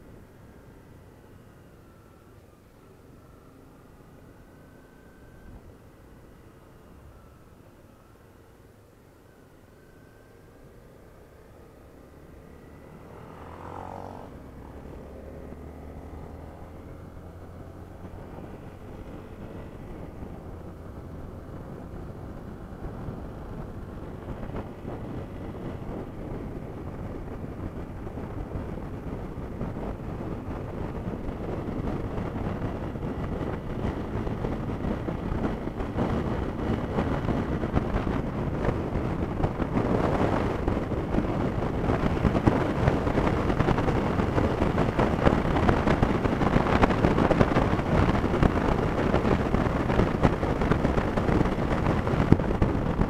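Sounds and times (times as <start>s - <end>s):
motorcycle riding at speed: 0.0s - 53.0s
wind rushing over microphone: 10.0s - 53.0s.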